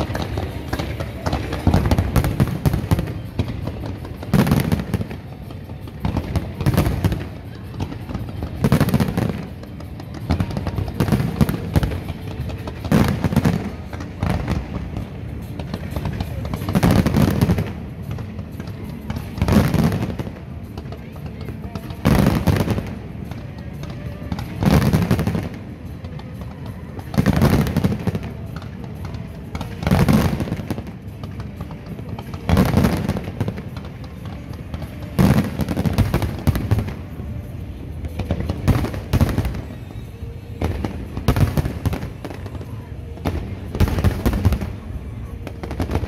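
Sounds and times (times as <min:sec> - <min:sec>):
fireworks booming: 0:00.0 - 0:46.0
fireworks crackling: 0:00.0 - 0:46.0.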